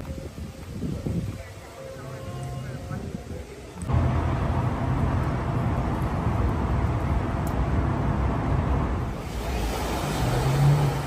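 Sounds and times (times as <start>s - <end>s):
engine and traffic rumble: 1.4s - 11.0s.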